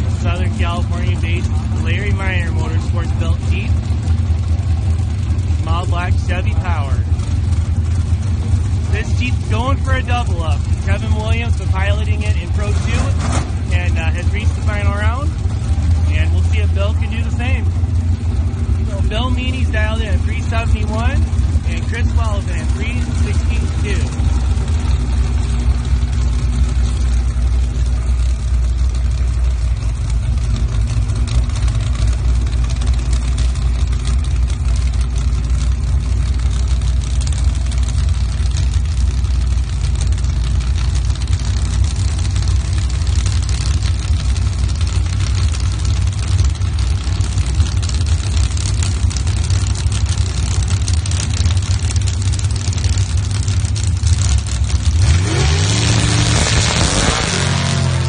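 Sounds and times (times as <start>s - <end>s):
engines idling with low rumble: 0.0s - 58.0s.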